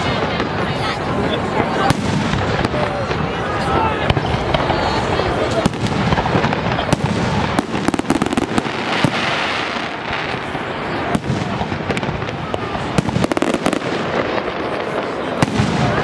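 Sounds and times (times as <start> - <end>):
crackling firework pops: 1.5 - 16.0.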